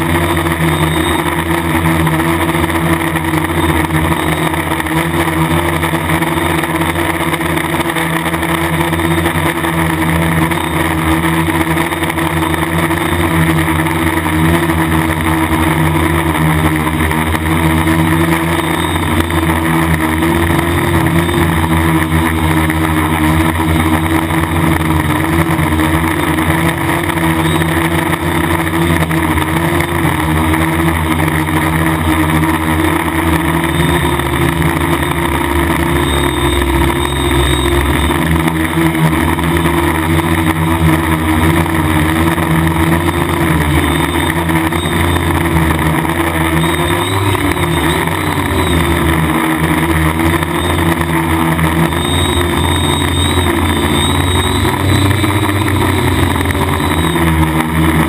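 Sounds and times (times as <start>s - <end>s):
drone propellers buzzing: 0.0s - 58.0s.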